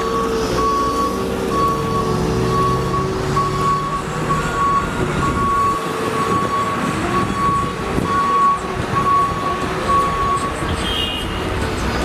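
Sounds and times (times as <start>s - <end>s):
reversing alarm beeping: 0.0s - 11.6s
diesel engine rumble: 0.0s - 12.0s
street noise: 0.0s - 12.0s.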